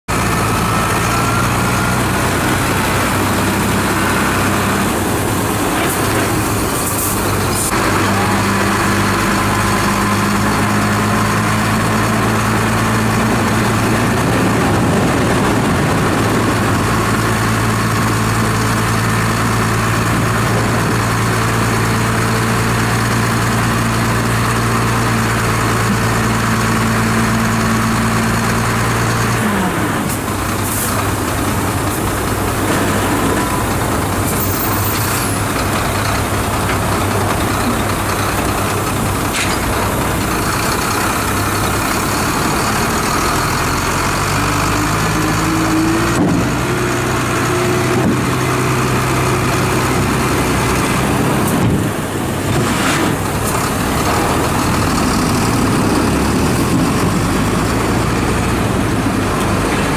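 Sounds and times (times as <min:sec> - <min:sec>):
heavy diesel truck engine running: 0:00.1 - 0:59.9.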